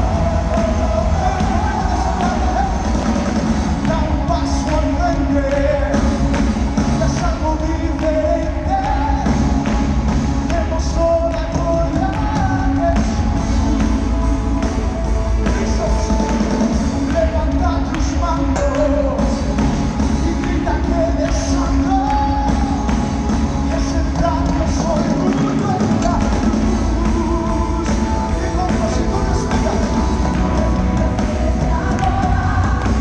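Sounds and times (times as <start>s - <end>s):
live worship band playing: 0.0s - 33.0s
person singing lead: 0.0s - 33.0s
steady drum beat: 0.0s - 33.0s.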